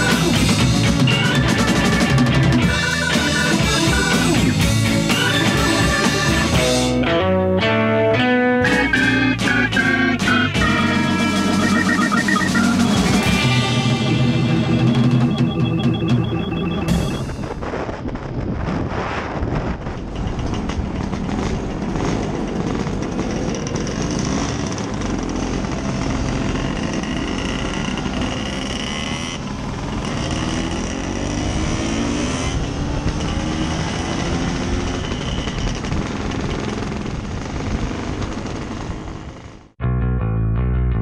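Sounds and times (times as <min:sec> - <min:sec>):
scooter engine running: 0:00.0 - 0:06.9, 0:08.8 - 0:17.3, 0:19.9 - 0:39.8
road and wind noise: 0:00.0 - 0:39.8.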